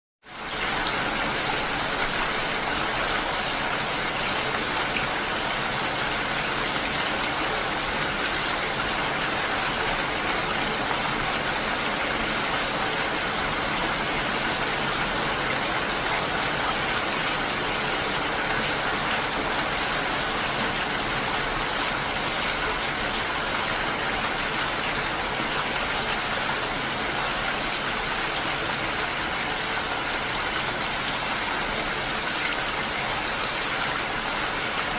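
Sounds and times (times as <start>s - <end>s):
rain falling: 0.3s - 34.9s.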